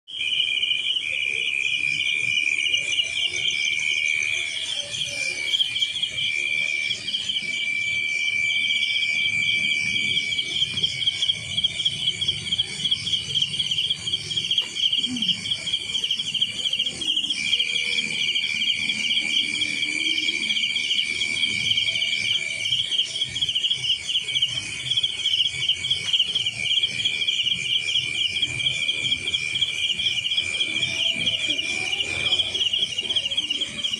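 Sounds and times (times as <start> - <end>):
crickets trilling: 0.1 - 33.9.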